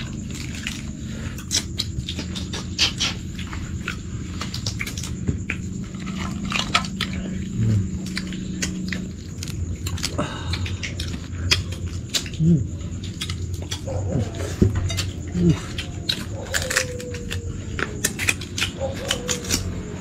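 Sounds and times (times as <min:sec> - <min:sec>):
people eating crunching: 0:00.0 - 0:20.0
steady low hum: 0:00.0 - 0:20.0.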